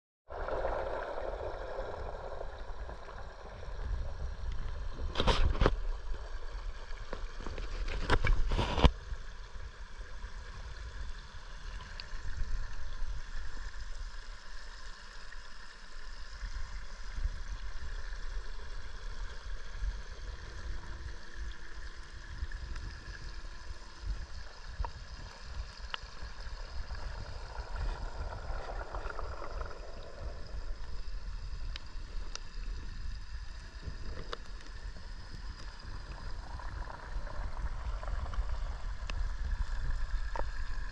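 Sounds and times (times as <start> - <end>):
underwater water circulation: 0.3 - 40.9.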